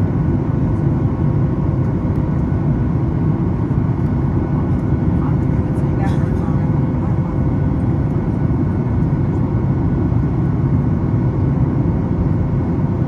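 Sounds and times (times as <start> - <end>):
airplane engine rumble: 0.0 - 13.0.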